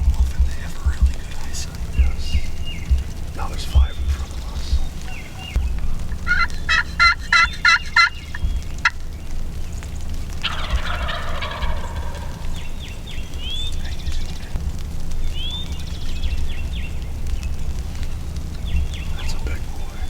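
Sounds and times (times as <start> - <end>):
turkey gobbling: 0.1 - 14.6, 17.4 - 20.0.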